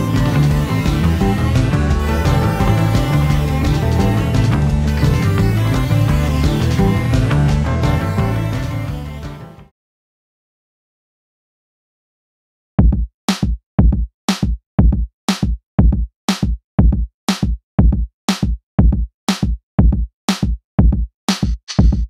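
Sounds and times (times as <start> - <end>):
drum machine beat: 0.0 - 9.4, 12.8 - 22.0.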